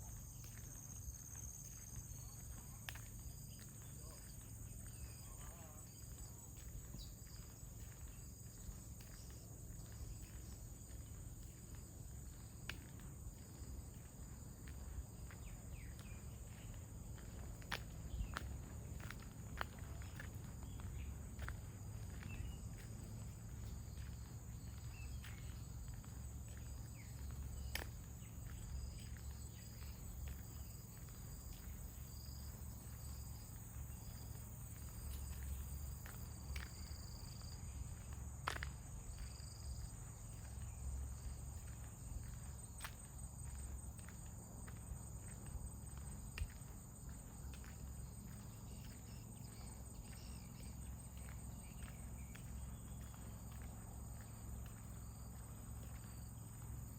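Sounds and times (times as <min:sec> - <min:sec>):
insects trilling: 0:00.0 - 0:56.9
soft footsteps: 0:00.1 - 0:56.9.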